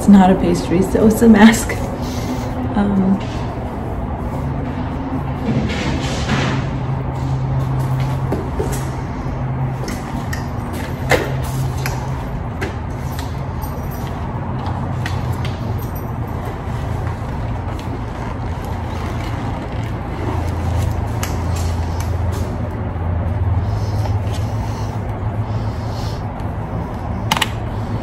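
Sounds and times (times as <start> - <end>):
engine rumbling: 0.0 - 28.0.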